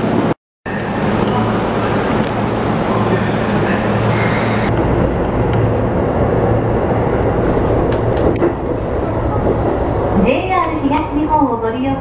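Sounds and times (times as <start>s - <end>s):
train rumbling with low hum: 0.0s - 12.0s.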